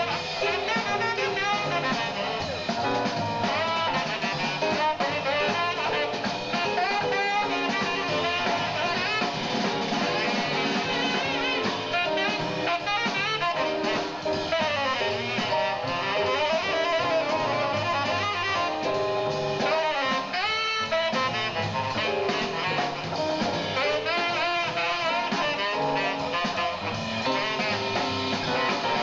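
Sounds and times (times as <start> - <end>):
jazz drums and rhythm section: 0.0 - 29.0
tenor saxophone soloing: 0.0 - 29.0.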